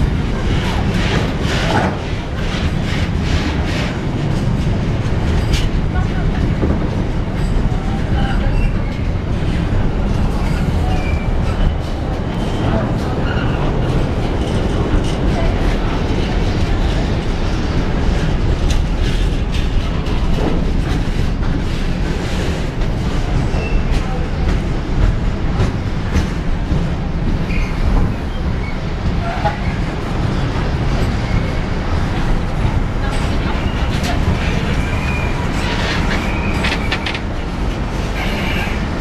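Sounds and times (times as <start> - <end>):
freight train rumbling: 0.0 - 39.0.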